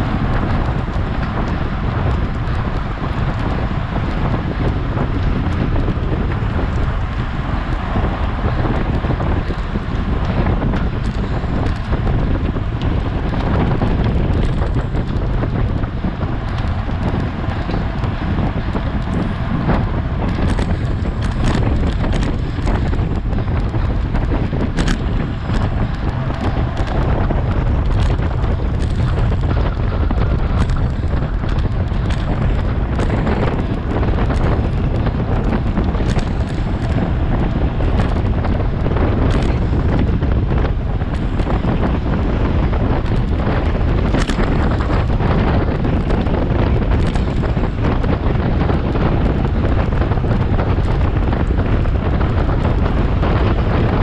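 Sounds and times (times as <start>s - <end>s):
tyre and road noise: 0.0s - 54.0s
wind buffeting on microphone: 0.0s - 54.0s.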